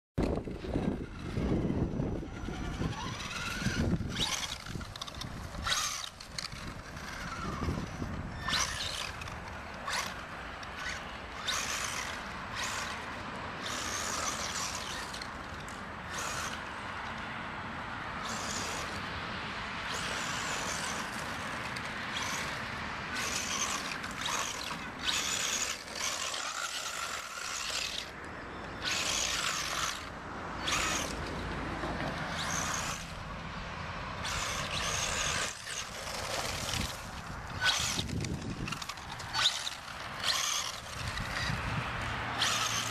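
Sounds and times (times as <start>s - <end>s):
toy car motor whining: 0.2s - 16.8s, 18.2s - 19.1s, 19.8s - 33.3s, 34.2s - 42.9s
tyres spinning on dirt: 0.2s - 16.8s, 18.2s - 19.0s, 19.8s - 33.2s, 34.2s - 42.9s.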